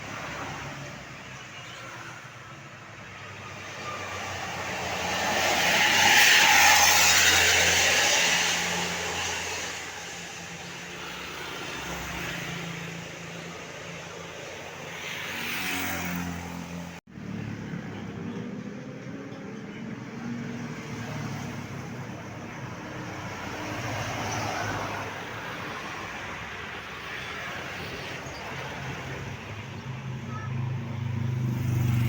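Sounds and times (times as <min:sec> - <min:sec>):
steady road noise: 0:00.0 - 0:32.0
vehicle engines running: 0:03.2 - 0:32.0.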